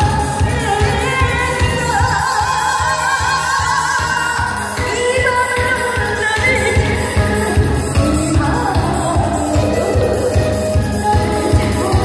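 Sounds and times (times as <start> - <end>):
amplified backing music: 0.0 - 12.0
woman singing with vibrato: 0.0 - 12.0.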